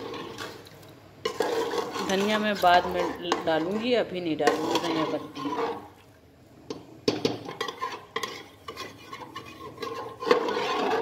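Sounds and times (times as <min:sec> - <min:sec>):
metal ladle scraping pot: 0:00.0 - 0:06.1, 0:07.1 - 0:11.0.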